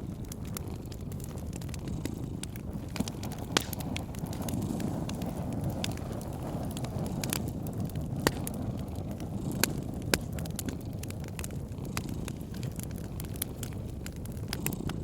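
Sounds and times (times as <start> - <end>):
fireplace fire crackling: 0.0 - 15.0
low fire rumble: 0.0 - 15.0
sharp fire pops: 0.0 - 15.0.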